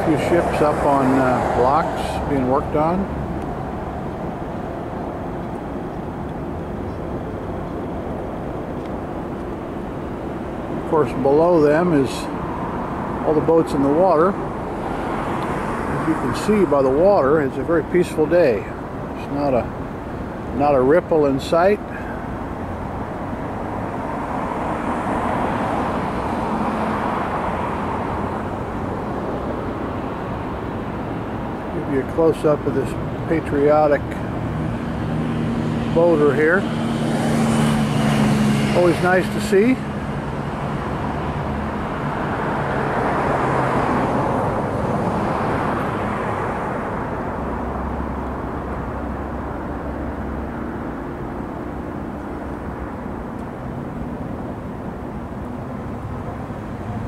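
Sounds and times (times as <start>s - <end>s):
distant engine noise: 0.0s - 57.0s
distant vehicle rumble: 0.0s - 57.0s.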